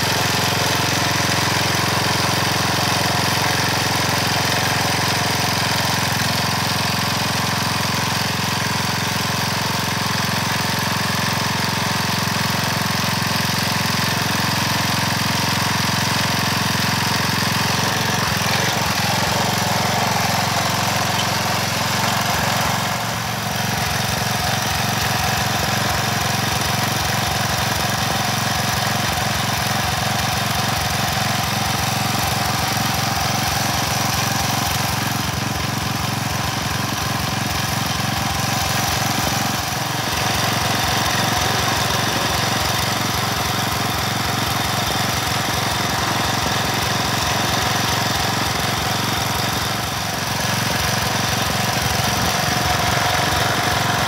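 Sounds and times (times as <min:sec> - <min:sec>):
garden tiller engine running: 0:00.0 - 0:54.0.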